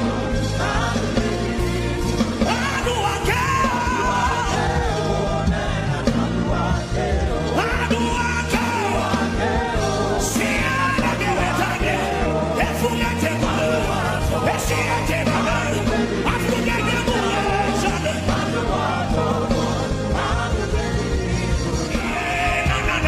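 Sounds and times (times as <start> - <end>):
band accompaniment: 0.0 - 23.0
voices singing a chant: 0.0 - 23.0.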